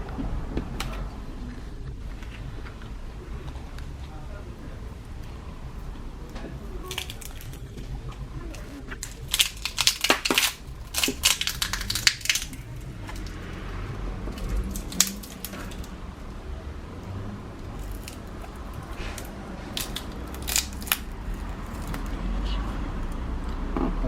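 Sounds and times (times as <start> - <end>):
crinkling: 0.0 - 23.3.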